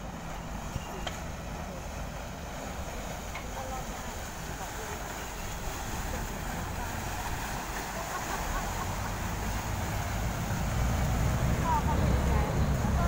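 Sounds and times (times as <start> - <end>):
boat engine rumbling: 0.0 - 13.0
wake water churning: 0.0 - 13.0.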